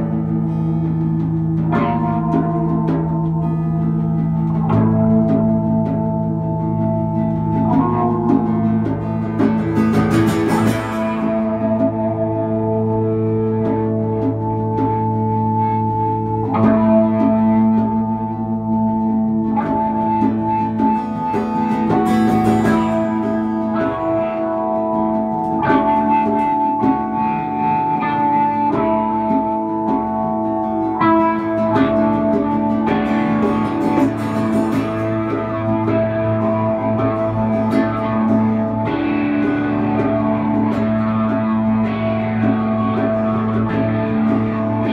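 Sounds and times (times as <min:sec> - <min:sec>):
acoustic guitar: 0:00.0 - 0:44.9
electric guitar: 0:00.0 - 0:44.9.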